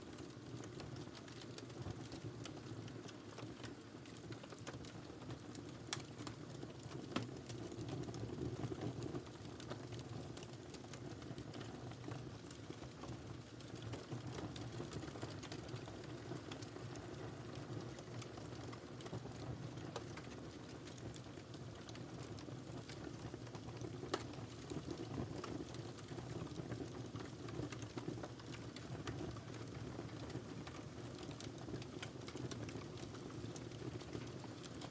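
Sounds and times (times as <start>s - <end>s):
fire crackling in fireplace: 0.0s - 34.9s.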